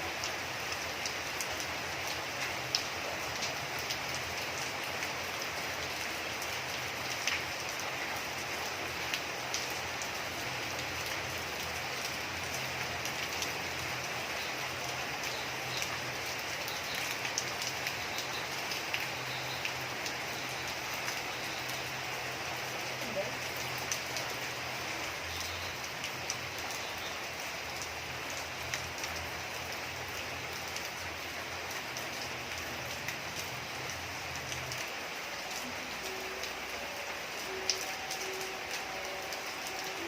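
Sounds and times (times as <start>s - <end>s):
steady rainfall: 0.0s - 40.0s.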